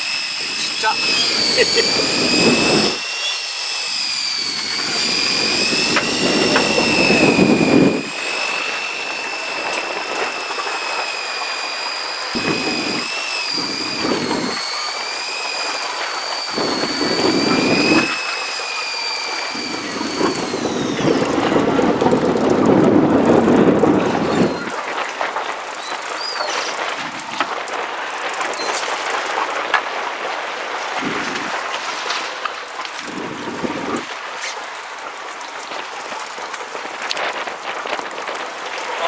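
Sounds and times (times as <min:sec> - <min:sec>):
fishing reel motor whine: 0:00.0 - 0:39.0.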